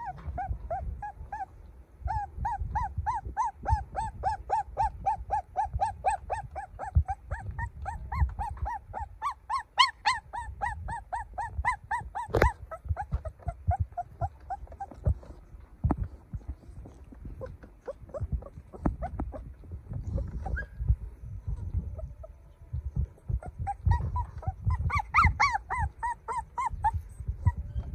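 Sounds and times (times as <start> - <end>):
puppy whimpering: 0.0 - 27.9.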